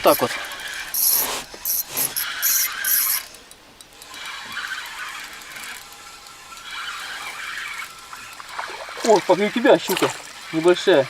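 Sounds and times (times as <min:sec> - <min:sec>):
fishing reel whirring: 0:00.0 - 0:11.0.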